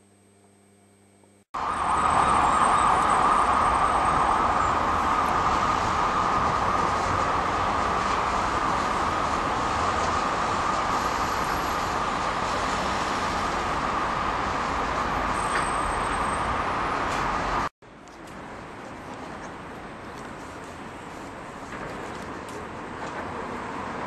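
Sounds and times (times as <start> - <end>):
heavy car traffic: 1.6 - 24.0.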